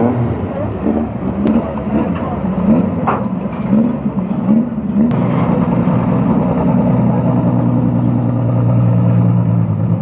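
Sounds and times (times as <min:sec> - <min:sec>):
race car engine at low revs: 0:00.0 - 0:10.0.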